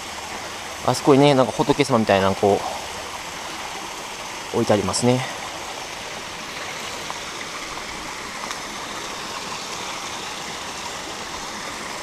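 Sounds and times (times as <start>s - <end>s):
water pouring and splashing over rocks: 0.0s - 12.0s.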